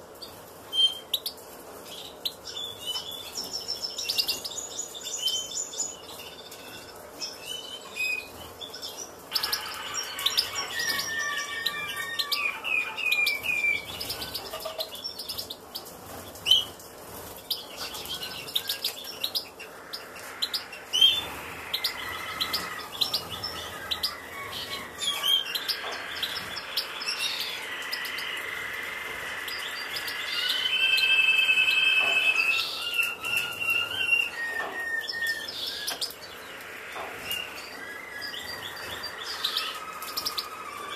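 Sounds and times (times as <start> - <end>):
finches chirping and singing: 2.0 - 15.9, 17.5 - 40.9.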